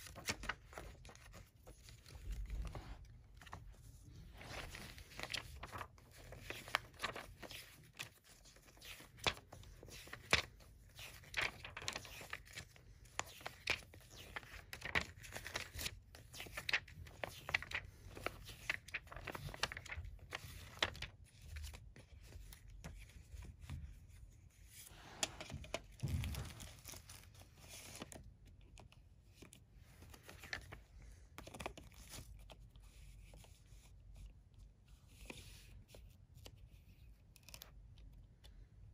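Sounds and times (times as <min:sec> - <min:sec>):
paper pages rustling: 0:00.0 - 0:38.5.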